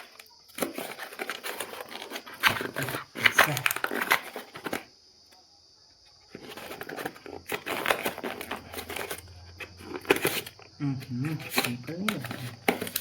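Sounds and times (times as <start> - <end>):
packaging rustling: 0.0 - 4.9, 6.2 - 13.0.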